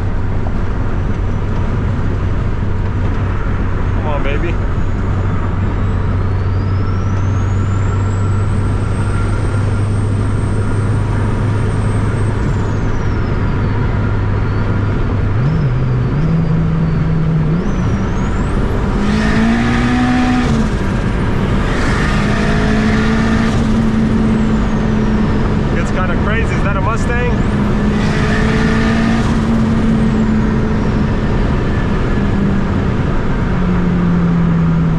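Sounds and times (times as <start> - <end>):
car engine droning: 0.0 - 34.9.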